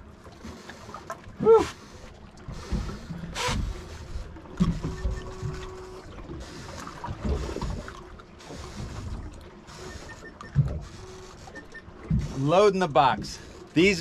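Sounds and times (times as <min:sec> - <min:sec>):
water slapping boat hull: 0:00.0 - 0:14.0.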